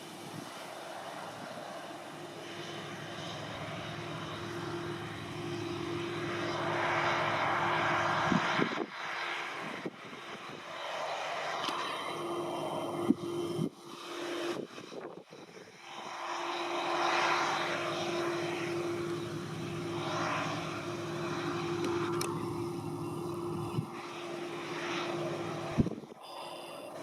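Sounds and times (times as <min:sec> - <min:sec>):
combine harvester drone and whine: 0:00.0 - 0:27.0.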